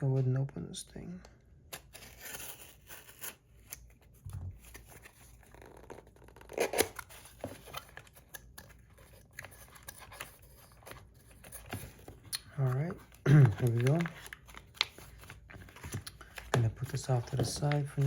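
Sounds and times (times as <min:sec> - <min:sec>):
packaging rustling and tearing: 0:01.8 - 0:18.0.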